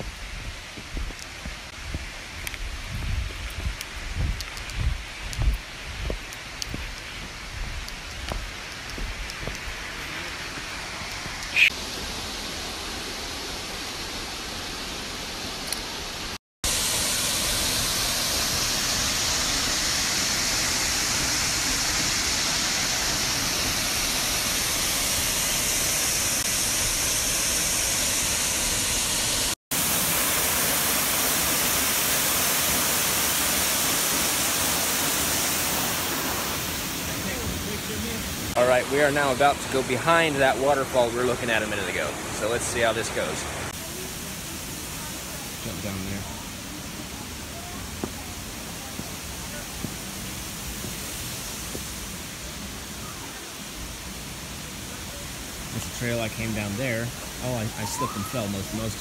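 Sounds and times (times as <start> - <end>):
outdoor hiss: 0.0 - 59.0
waterfall rushing: 8.5 - 59.0.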